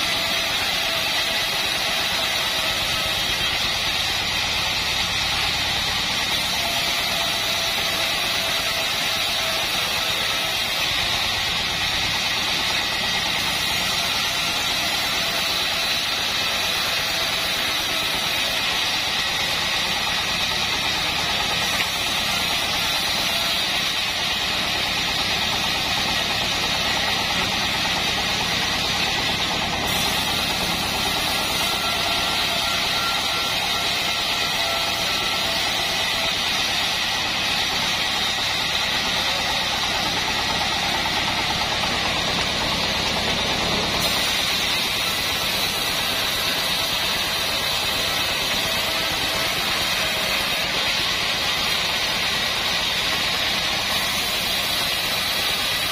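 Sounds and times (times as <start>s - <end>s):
band sawmill running: 0.0s - 55.9s
saw blade ripping wooden plank: 0.0s - 55.9s.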